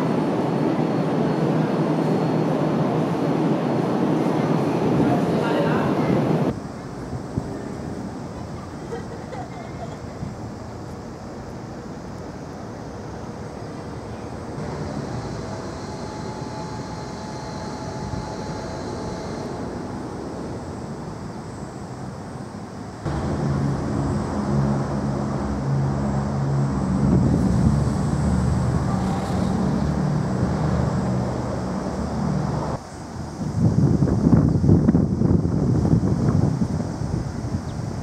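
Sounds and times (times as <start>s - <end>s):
low engine-like drone: 0.0s - 32.9s
wind: 0.0s - 38.0s.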